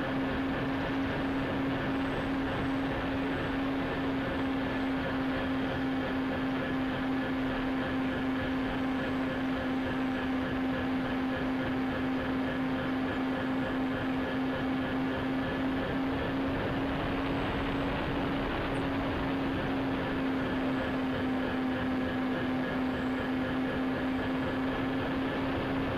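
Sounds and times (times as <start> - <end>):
model plane motor whine: 0.0 - 25.9.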